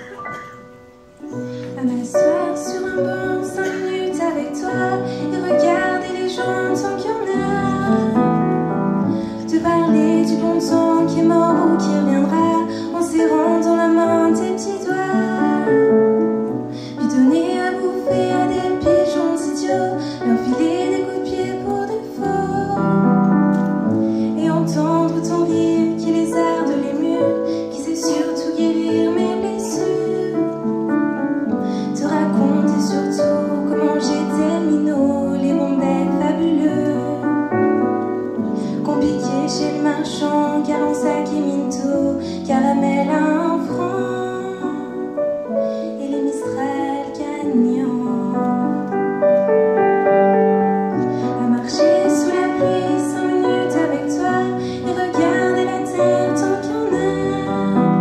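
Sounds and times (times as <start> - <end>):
keyboard playing piano sound: 0.0 - 58.0
girl singing into microphone: 1.2 - 49.2, 50.9 - 58.0.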